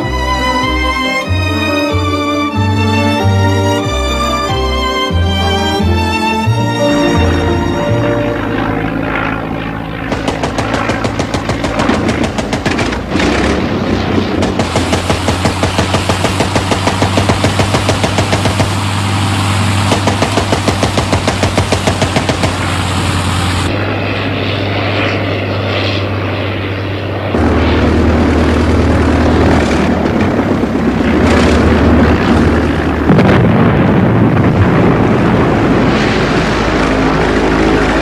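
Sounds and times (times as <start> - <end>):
propeller aircraft engine drone: 0.0 - 38.0.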